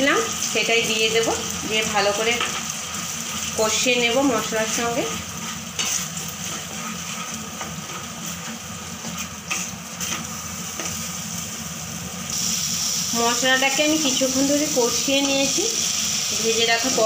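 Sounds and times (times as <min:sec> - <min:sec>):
paste frying in oil: 0:00.0 - 0:17.0.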